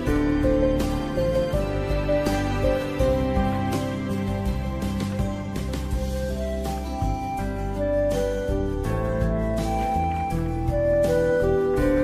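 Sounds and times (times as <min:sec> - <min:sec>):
soft slow instrumental music: 0:00.0 - 0:12.0.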